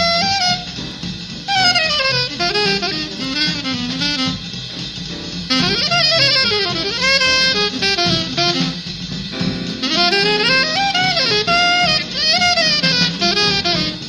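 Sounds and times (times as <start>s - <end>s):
jazz rhythm section: 0.0s - 14.0s
saxophone solo: 0.0s - 14.0s.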